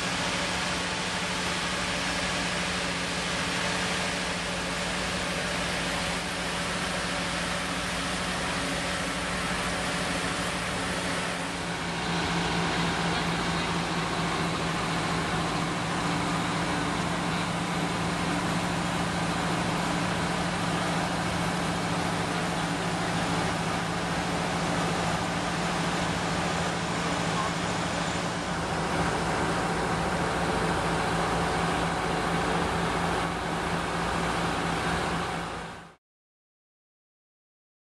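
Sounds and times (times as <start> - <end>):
fire engine machinery drone: 0.0 - 36.0.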